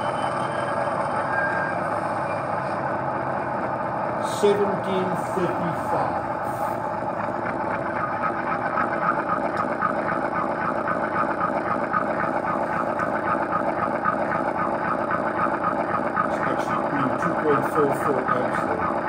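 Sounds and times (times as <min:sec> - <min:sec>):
model locomotive running under load: 0:00.0 - 0:19.0.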